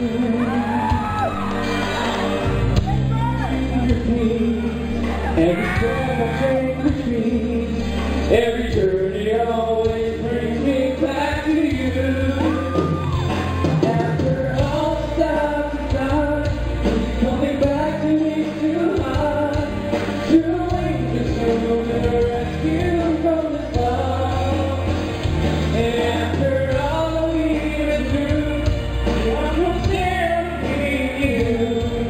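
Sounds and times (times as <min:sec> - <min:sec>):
men singing into microphones: 0:00.0 - 0:02.7, 0:03.3 - 0:32.0
backing music: 0:00.0 - 0:32.0.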